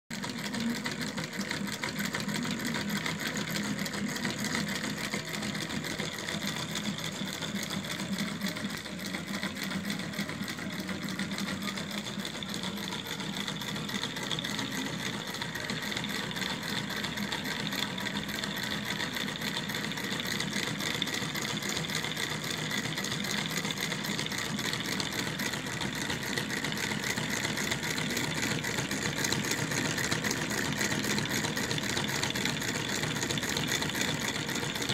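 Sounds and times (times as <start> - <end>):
stirling engine mechanical clatter: 0.1 - 34.9.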